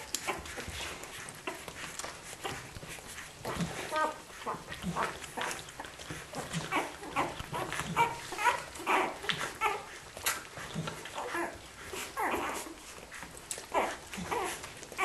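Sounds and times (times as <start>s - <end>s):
puppies squeaking and whimpering: 0.0s - 15.0s.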